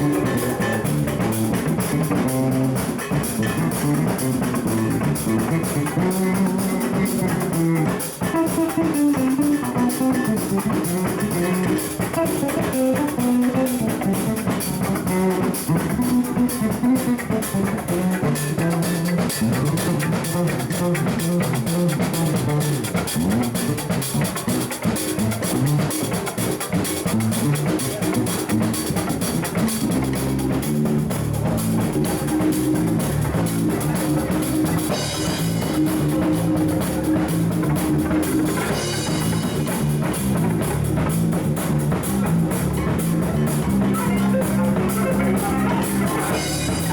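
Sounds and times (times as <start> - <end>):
live band jamming: 0.0 - 46.9.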